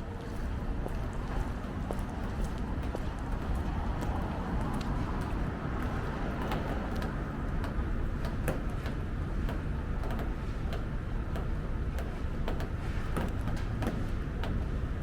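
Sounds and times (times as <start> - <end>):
footsteps on hard pavement: 0.0 - 15.0
low street rumble: 0.0 - 15.0.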